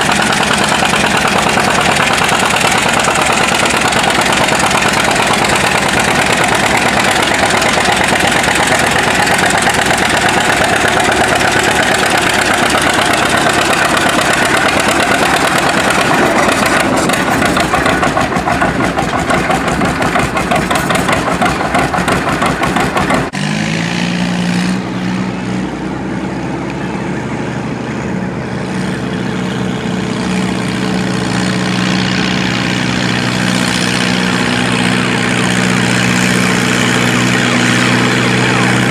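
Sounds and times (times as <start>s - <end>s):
steady engine hum: 0.0s - 38.9s
tractor engine running hard: 0.0s - 38.9s.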